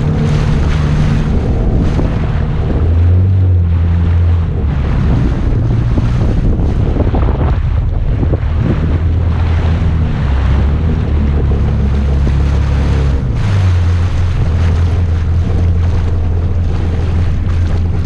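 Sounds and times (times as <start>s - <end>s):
jet ski engine running: 0.0s - 18.0s
wind and water spray: 0.0s - 18.0s.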